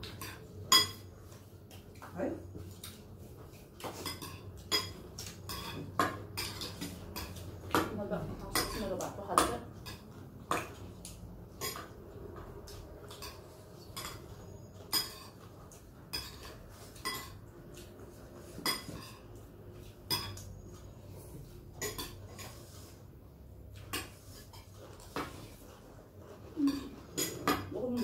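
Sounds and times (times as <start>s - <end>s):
cutlery clinking on ceramic bowls: 0.0s - 20.9s, 21.7s - 22.7s, 26.4s - 28.0s.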